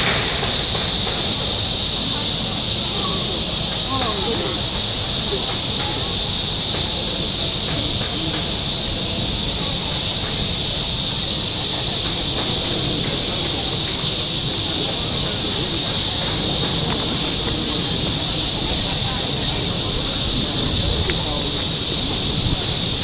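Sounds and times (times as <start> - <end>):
cicadas droning: 0.0 - 23.0
murmur of voices: 0.0 - 23.0.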